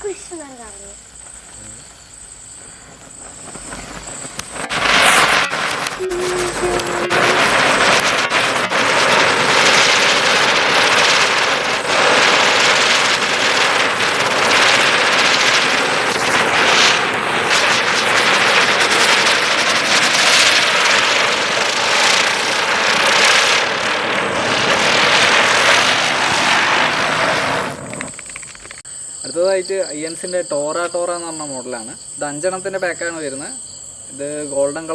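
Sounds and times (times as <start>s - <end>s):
spinning firework hissing: 0.0s - 28.9s.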